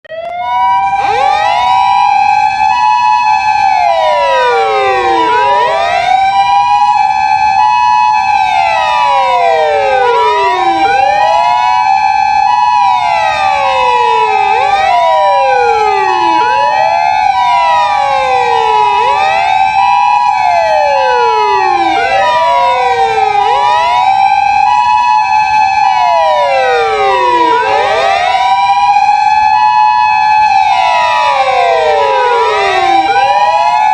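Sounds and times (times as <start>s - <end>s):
two-tone hi-lo siren: 0.0s - 33.9s
wailing sirens: 0.0s - 33.9s.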